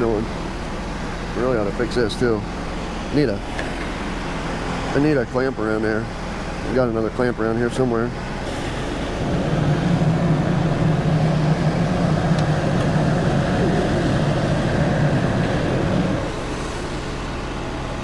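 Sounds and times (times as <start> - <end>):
sawmill running: 0.0 - 18.0.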